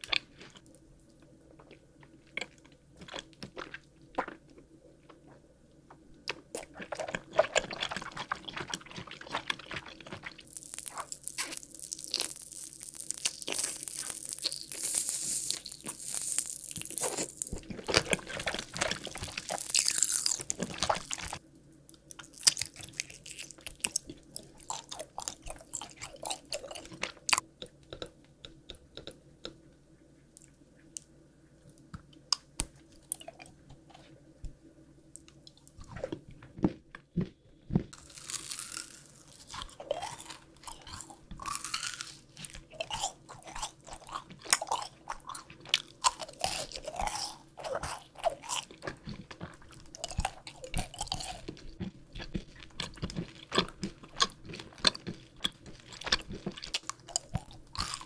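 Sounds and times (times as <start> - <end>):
chewing crunchy sweets: 0.0 - 5.4, 6.3 - 29.3, 32.1 - 34.2, 35.2 - 58.0.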